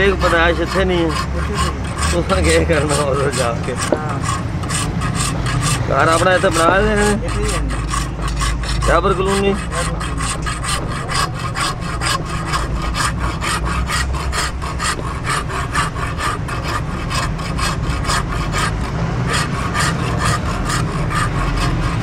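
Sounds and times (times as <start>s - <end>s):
hand file scraping steel: 0.0s - 22.0s.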